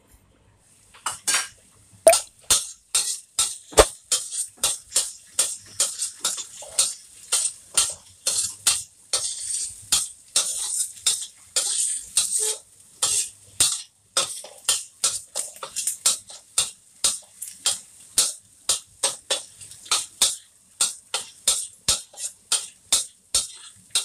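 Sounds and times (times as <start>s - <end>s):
garlic sizzling in oil: 2.4s - 24.0s
metal spatula scraping a wok: 2.9s - 18.4s, 19.0s - 24.0s.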